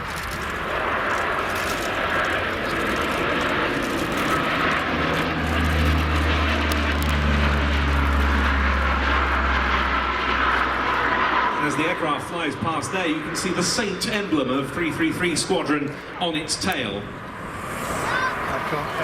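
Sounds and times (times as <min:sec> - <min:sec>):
turboprop engine whine: 0:00.0 - 0:19.0.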